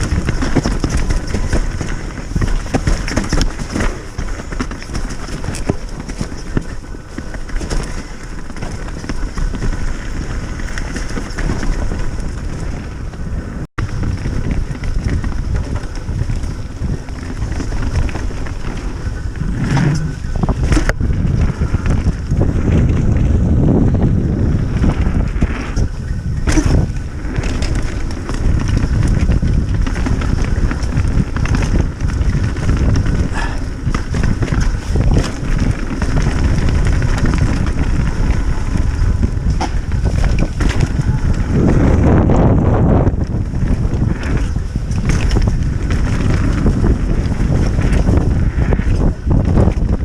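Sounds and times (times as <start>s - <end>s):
bike knocks and rattles: 0.0s - 50.0s
wind rushing over microphone: 0.0s - 50.0s.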